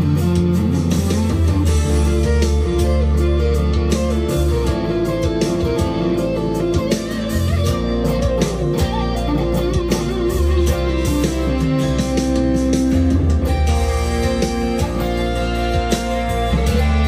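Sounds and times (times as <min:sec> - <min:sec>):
electric guitar lead lines: 0:00.0 - 0:17.0.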